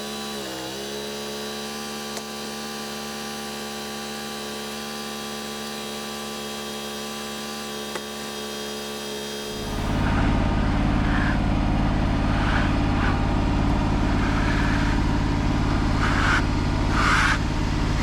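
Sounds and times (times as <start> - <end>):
band sawmill running: 0.0 - 18.0.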